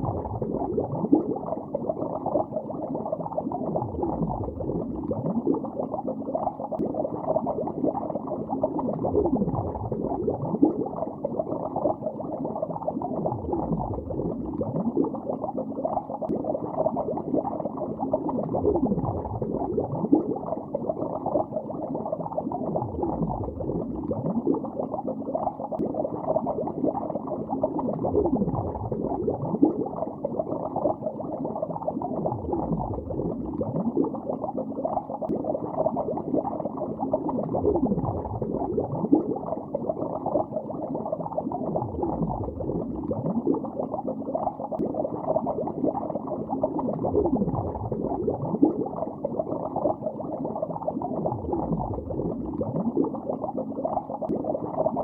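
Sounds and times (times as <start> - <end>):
underwater bubbling: 0.0 - 55.0.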